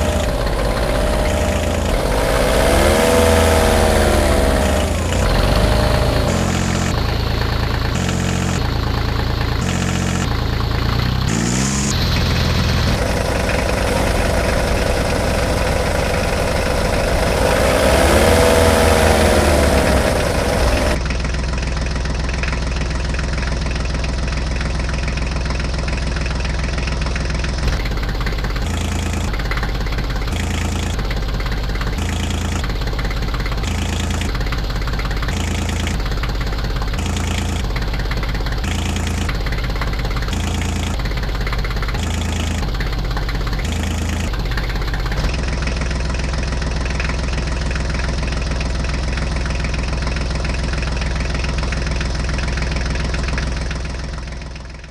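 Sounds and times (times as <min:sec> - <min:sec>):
pulsing second engine: 0:00.0 - 0:54.9
vehicle engine idling: 0:00.0 - 0:54.9.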